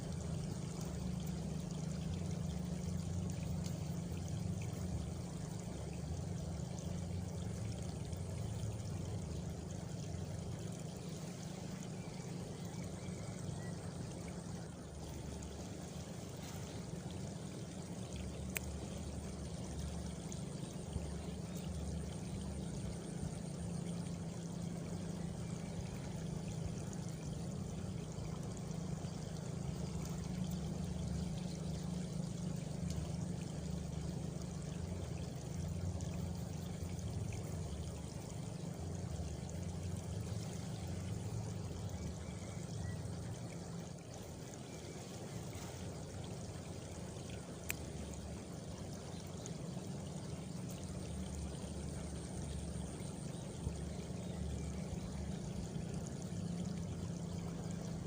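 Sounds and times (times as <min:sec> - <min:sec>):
crickets and frogs chorus: 0:00.0 - 0:58.0
rushing water-like noise: 0:00.0 - 0:58.0.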